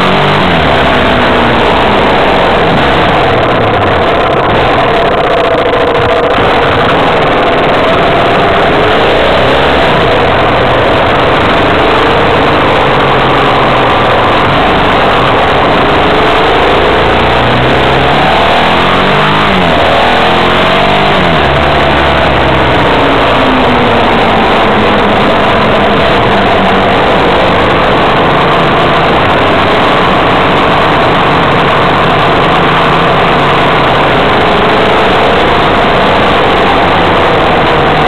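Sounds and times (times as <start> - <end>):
road noise rush: 0.0 - 38.0
vehicle engine: 0.0 - 38.0.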